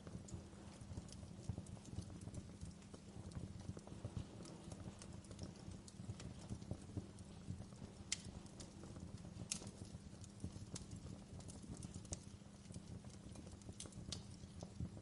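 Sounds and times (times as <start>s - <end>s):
fire crackling and popping: 0.0s - 15.0s
wood fire rumbling: 0.0s - 15.0s.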